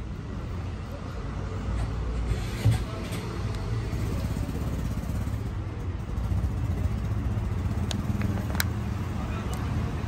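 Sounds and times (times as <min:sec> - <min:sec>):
low rumble of traffic: 0:00.0 - 0:10.0.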